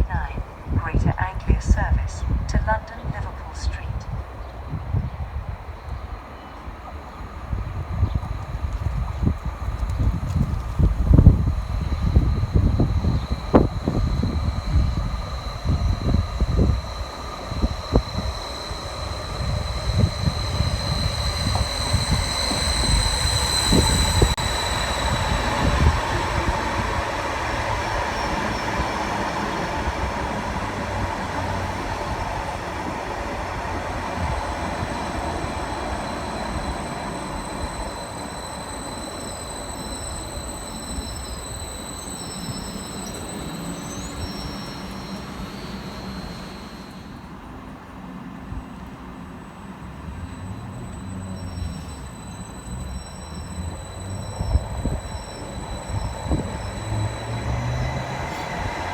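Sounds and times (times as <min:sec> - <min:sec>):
high steady squeal: 0:00.0 - 0:58.9
train rumble: 0:00.0 - 0:58.9.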